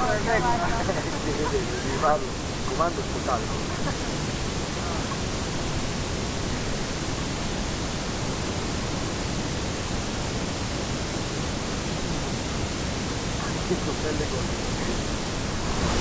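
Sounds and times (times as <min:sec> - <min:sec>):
water rushing past boat: 0:00.0 - 0:16.0.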